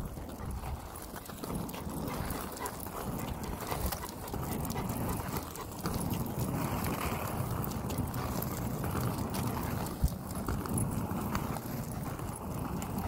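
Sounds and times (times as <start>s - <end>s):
dog panting: 0.0s - 13.0s
footsteps on pavement: 0.0s - 13.0s.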